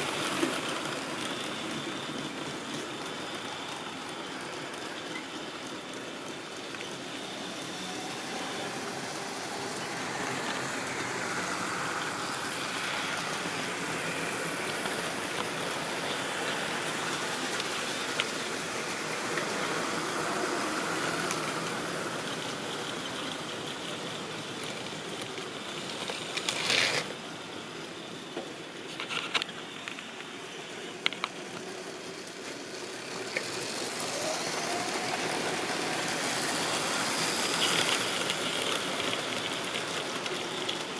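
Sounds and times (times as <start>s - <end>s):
model train rumbling on track: 0.0s - 40.9s.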